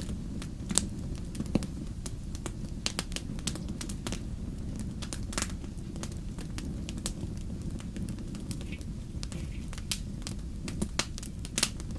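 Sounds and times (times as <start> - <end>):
fire snaps and pops: 0.0 - 11.9
wood fire crackling: 0.0 - 11.9.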